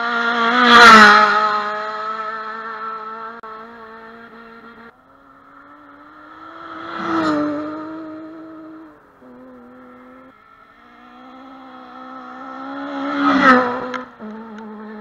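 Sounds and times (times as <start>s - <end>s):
rally car passing at speed: 0.0s - 15.0s.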